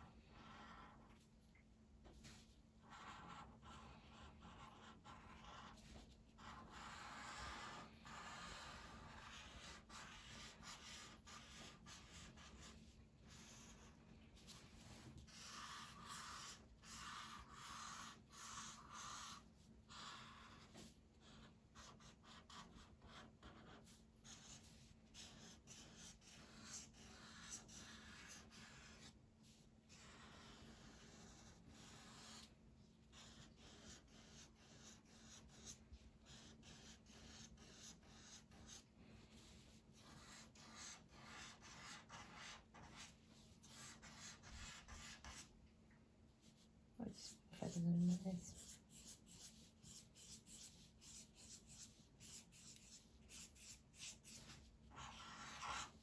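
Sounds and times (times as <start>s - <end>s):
pen scratching on paper: 0.2s - 1.2s, 2.2s - 32.5s, 33.1s - 45.5s, 46.4s - 46.6s, 47.2s - 56.0s.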